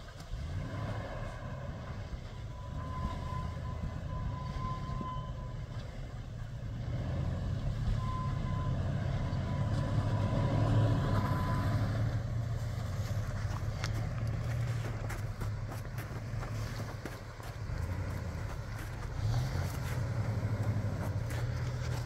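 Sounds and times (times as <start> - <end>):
truck engine at low revs: 0.0 - 22.0.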